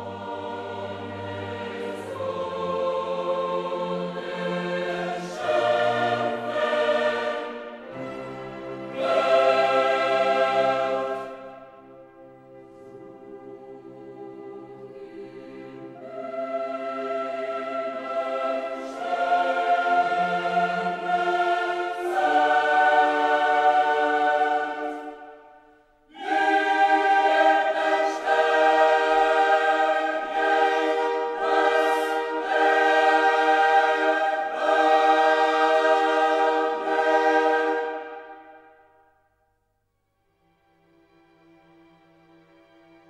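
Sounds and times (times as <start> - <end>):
choir singing sustained chords: 0.0 - 39.5.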